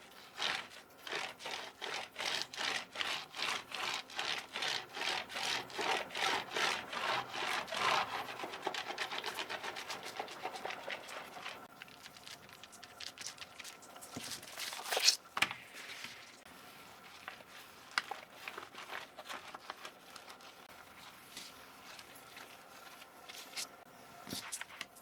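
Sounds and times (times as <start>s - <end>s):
scrubbing a keyboard: 0.0s - 15.2s, 15.8s - 25.0s.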